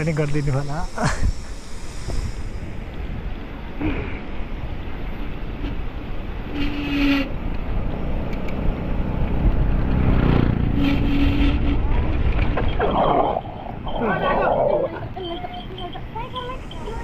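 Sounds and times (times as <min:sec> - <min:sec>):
bike riding rumble and wind: 0:00.0 - 0:17.0.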